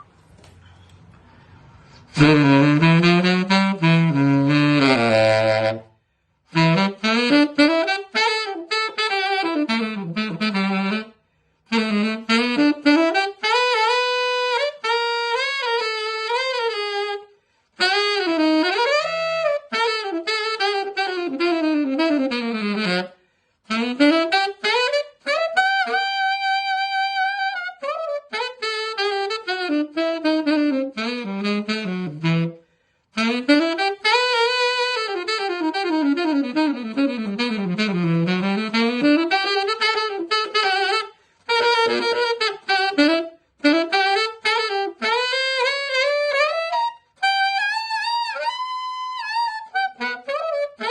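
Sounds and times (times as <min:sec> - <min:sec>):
solo tenor saxophone jazz: 0:00.0 - 0:50.9.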